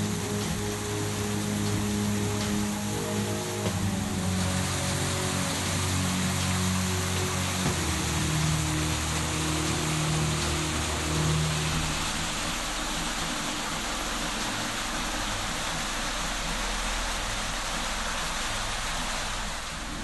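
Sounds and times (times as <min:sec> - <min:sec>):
waterfall splashing: 0:00.0 - 0:20.0.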